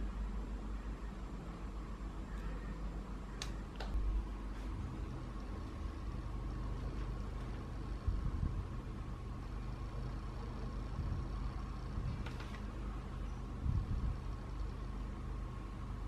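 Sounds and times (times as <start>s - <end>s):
faint steady hum: 0.0s - 16.0s
low background rumble: 0.0s - 16.0s.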